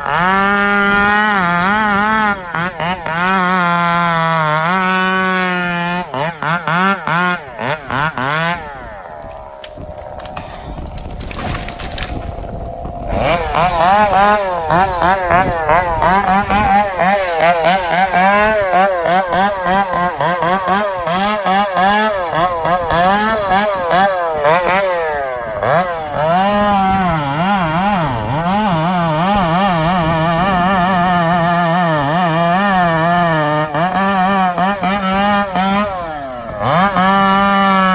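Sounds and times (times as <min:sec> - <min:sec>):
chainsaw running: 0:00.0 - 0:37.9.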